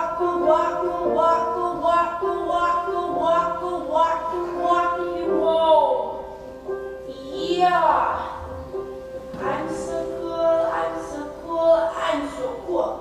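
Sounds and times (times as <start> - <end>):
woman singing with recorded music: 0.0 - 6.3, 7.0 - 8.4, 9.4 - 13.0.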